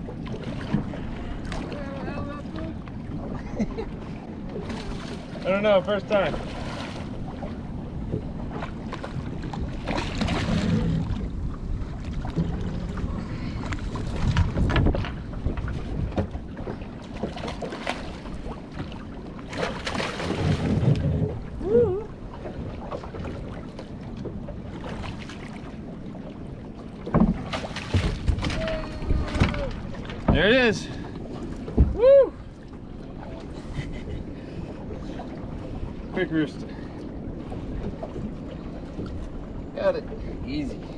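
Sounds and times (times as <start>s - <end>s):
wind buffeting microphone: 0.0s - 17.4s, 18.1s - 40.9s
water sloshing against boat hull: 0.0s - 40.9s
water splashes: 0.0s - 40.9s.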